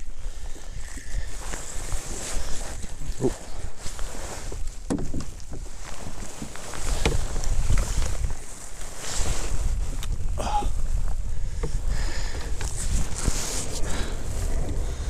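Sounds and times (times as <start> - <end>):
water around a kayak: 0.0 - 15.0
wind rumbling on microphone: 0.0 - 15.0.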